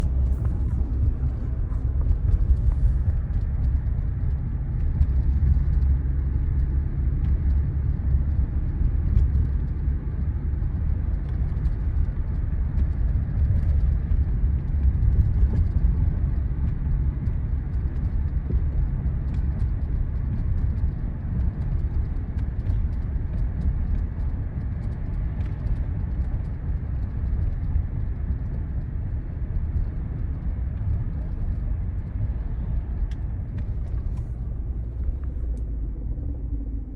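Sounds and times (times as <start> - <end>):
road and engine rumble: 0.0 - 36.9.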